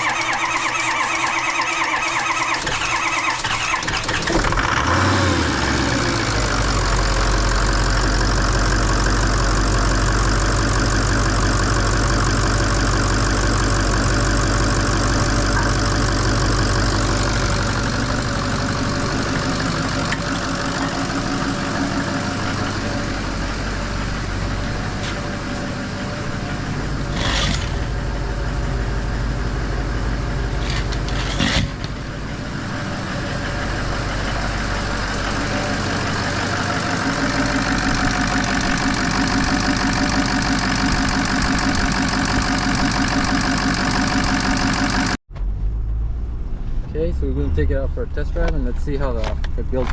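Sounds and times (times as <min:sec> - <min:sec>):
diesel engine idling: 0:00.0 - 0:45.2.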